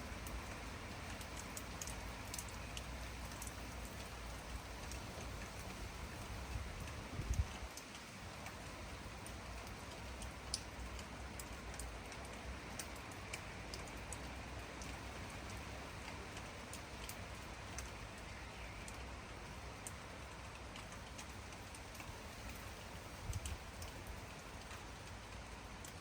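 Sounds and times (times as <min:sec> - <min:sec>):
raindrops ticking: 0:00.0 - 0:26.0
steady rain: 0:00.0 - 0:26.0.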